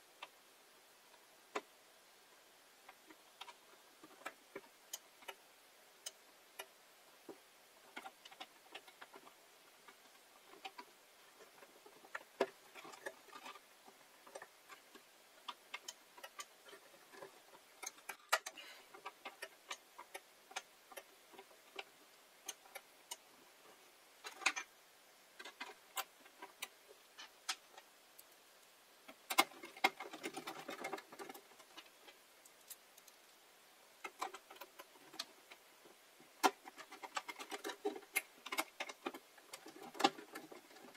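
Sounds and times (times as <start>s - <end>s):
small parts and tools clicking: 2.9s - 5.4s, 6.0s - 24.8s, 25.4s - 40.9s.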